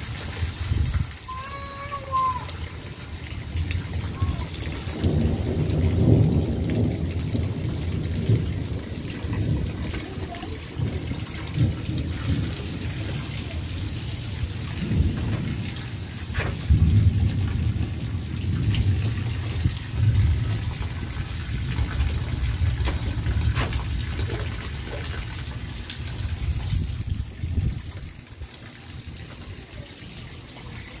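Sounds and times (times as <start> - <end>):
rain falling: 0.0 - 31.0
scattered drips: 0.0 - 31.0.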